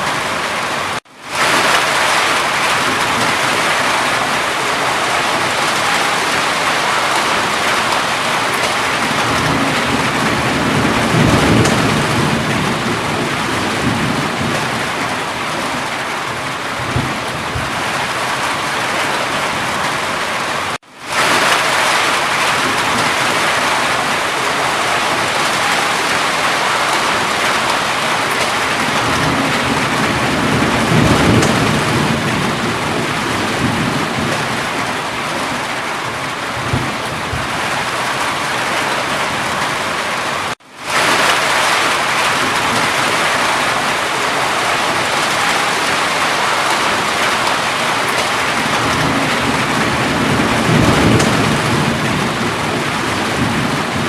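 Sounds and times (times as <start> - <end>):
heavy rainfall: 0.0 - 54.0
low rolling thunder: 1.3 - 40.2, 40.9 - 54.0.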